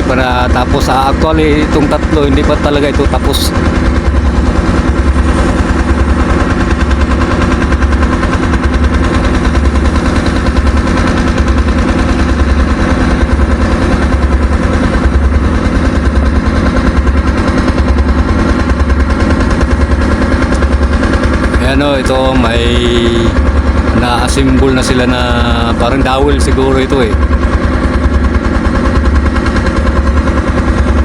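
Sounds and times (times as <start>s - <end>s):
loud engine chugging: 0.0s - 31.0s.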